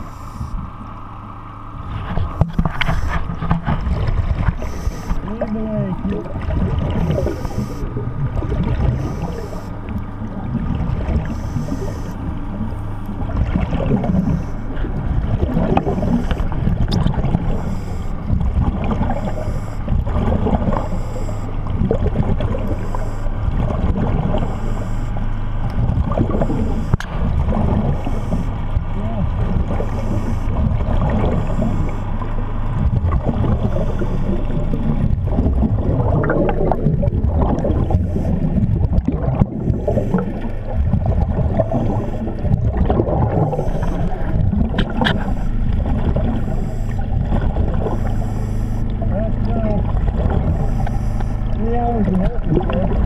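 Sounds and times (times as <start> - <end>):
bubbling and gurgling air: 0.0 - 53.0
low mechanical hum underwater: 0.0 - 53.0.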